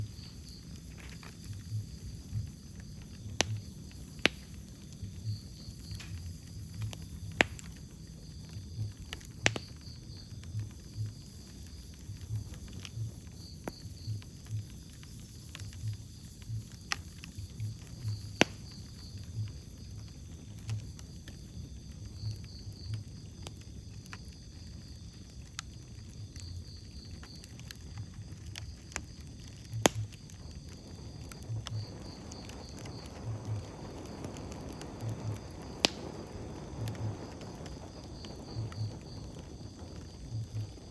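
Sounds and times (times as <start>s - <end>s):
sharp pops of fire: 0.0s - 40.9s
wood fire crackling: 0.0s - 40.9s.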